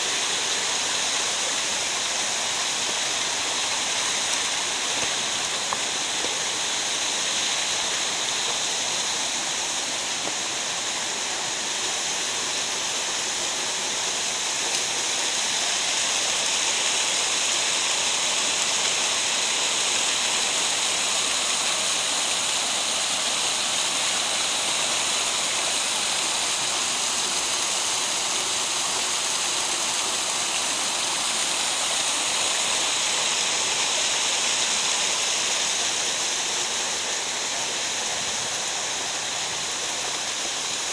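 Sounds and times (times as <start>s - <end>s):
water rushing down a gorge: 0.0s - 40.9s.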